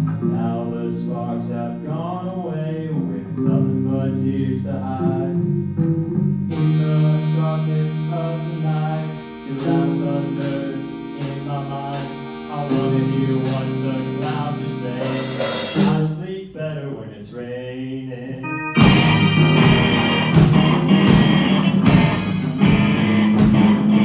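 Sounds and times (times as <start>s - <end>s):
guitar chords ringing: 0.0s - 16.0s, 18.4s - 24.0s.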